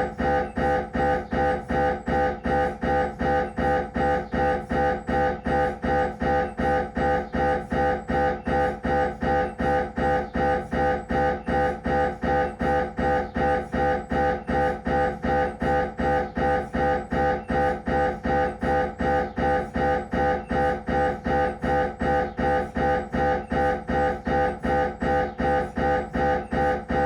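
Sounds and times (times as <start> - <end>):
mri scanner buzzing pulses: 0.0 - 27.0.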